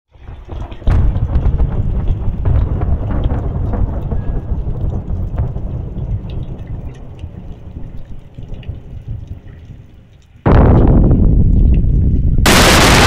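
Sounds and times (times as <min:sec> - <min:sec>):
heavy rain on water: 0:00.1 - 0:13.0
deep uneven rumbling: 0:00.2 - 0:13.0.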